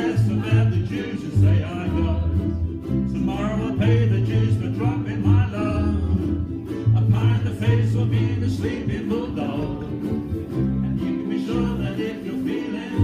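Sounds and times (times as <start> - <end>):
group singing: 0.0 - 13.0
low bass notes: 0.0 - 13.0
ukuleles and guitars strumming: 0.0 - 13.0.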